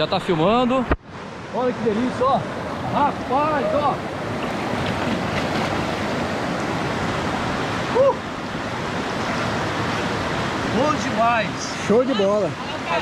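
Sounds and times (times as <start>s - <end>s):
river rapids rushing: 1.1s - 13.0s.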